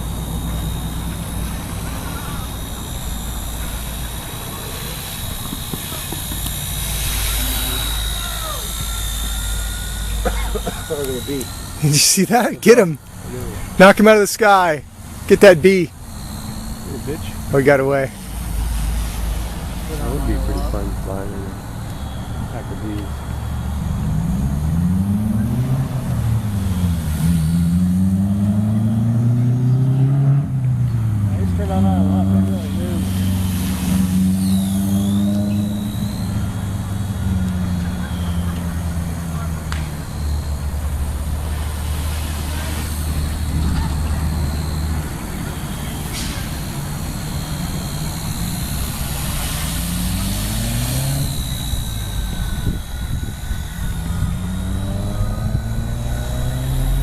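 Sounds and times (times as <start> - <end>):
engine rumble rising in pitch: 0.0 - 57.0
small rc helicopter humming: 0.0 - 57.0
steady high whine: 0.0 - 57.0.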